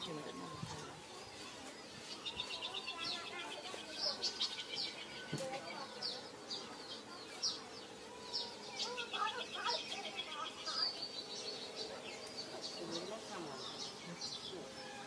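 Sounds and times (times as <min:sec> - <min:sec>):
birds chirping: 0:00.0 - 0:15.0
bird trills: 0:02.2 - 0:15.0.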